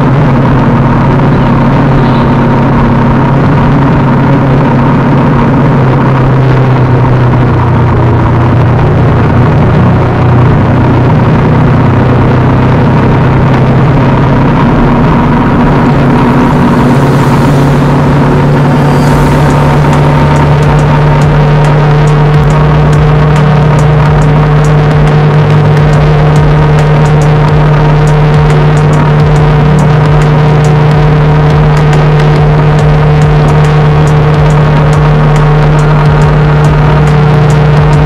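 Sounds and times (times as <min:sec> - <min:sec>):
motorcycle engine cruising: 0:00.0 - 0:38.0
wind rushing over microphone: 0:00.0 - 0:38.0.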